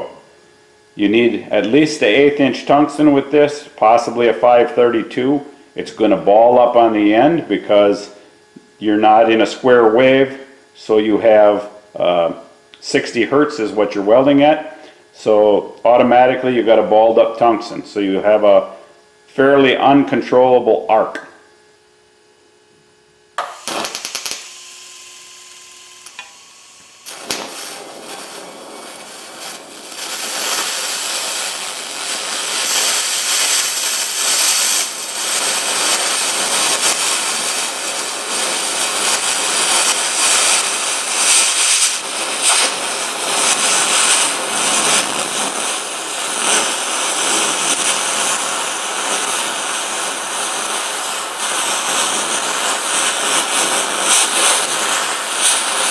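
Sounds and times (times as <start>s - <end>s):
welding arc crackling hiss: 0.0s - 19.0s, 22.8s - 55.9s.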